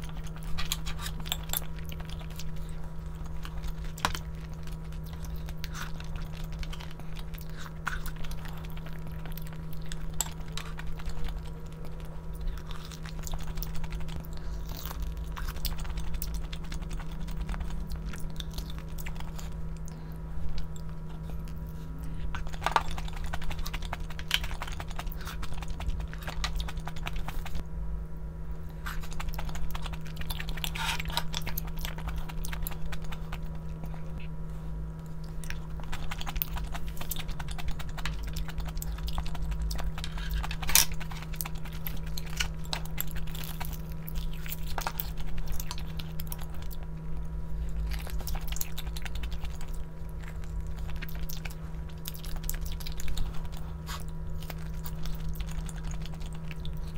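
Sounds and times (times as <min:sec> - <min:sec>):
person chewing and biting: 0:00.0 - 0:27.6, 0:28.7 - 0:34.4, 0:35.0 - 0:56.9
low steady hum: 0:00.0 - 0:56.9.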